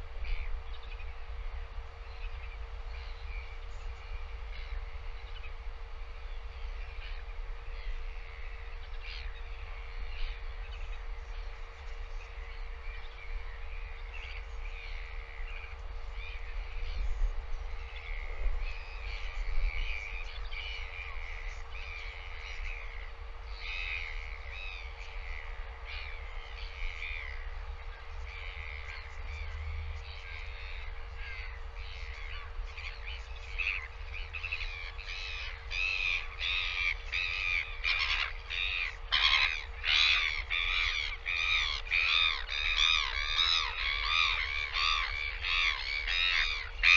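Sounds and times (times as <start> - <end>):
faint steady hum: 0.0 - 46.9
low wind rumble: 0.0 - 46.9
birds rasping calls: 6.7 - 46.9.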